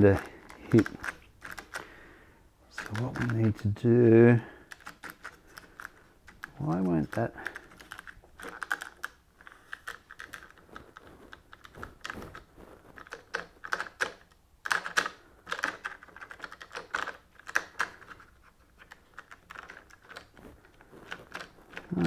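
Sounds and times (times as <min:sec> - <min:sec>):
hard plastic parts clicking: 0:00.0 - 0:22.0.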